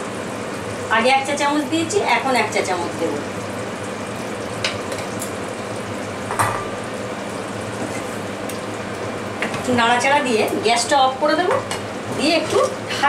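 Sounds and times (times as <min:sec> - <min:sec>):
gravy sizzling and bubbling: 0:00.0 - 0:13.0.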